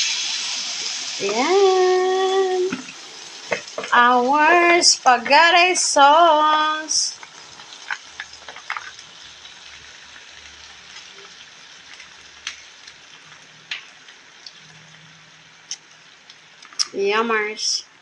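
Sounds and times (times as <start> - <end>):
sauce sizzling in a pan: 0.0 - 18.0.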